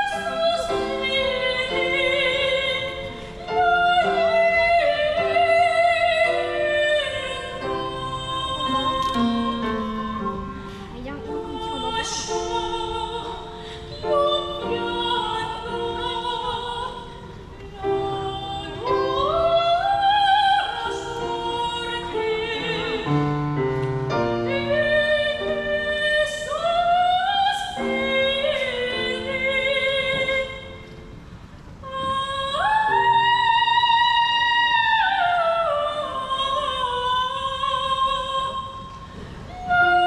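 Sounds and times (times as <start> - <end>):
woman singing operatically: 0.0 - 23.3, 24.4 - 30.8, 31.8 - 40.0.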